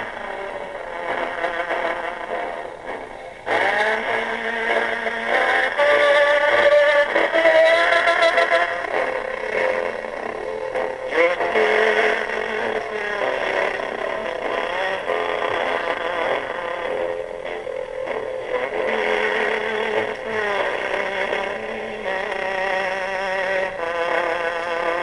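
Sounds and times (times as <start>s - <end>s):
gramophone music with vibrato: 0.0s - 25.0s
record surface hiss: 0.0s - 25.0s.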